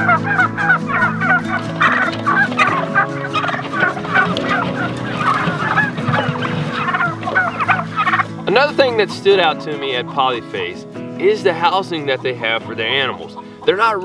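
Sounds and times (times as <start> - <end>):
turkeys calling: 0.0 - 14.0.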